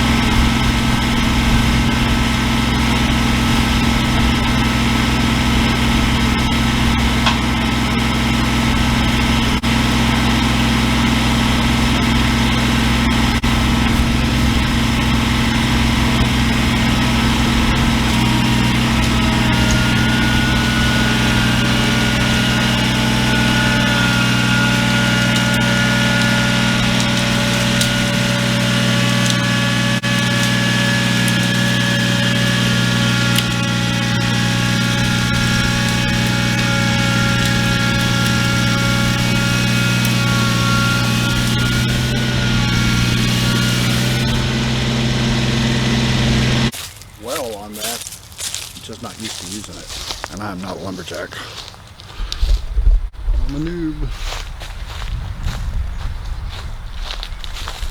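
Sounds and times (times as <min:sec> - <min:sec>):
engine idling: 0:00.0 - 0:48.5.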